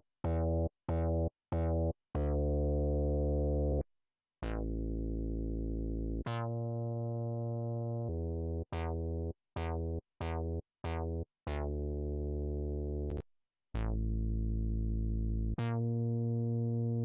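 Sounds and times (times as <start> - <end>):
synthesizer bass notes with zaps: 0.2 - 3.8, 4.4 - 9.0, 9.6 - 13.2, 13.8 - 17.0.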